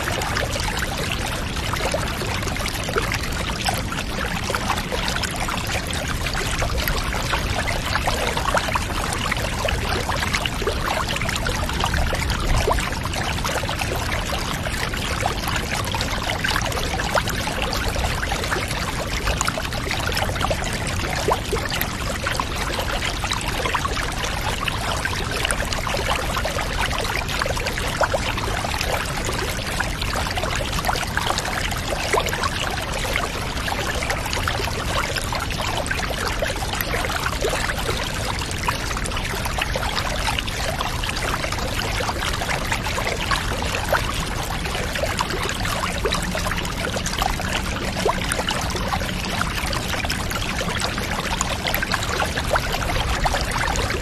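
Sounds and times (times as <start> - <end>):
water pouring and trickling: 0.0 - 54.0.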